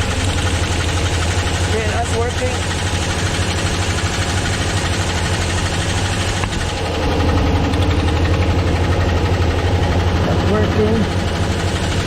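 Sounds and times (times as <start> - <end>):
engine idling: 0.0 - 12.0
engine knocking: 0.0 - 12.0.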